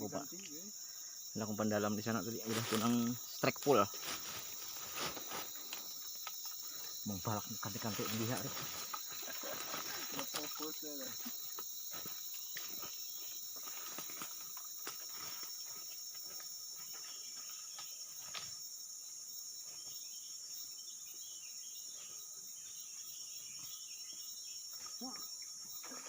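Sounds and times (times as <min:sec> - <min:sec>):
insect chorus: 0:00.0 - 0:26.0.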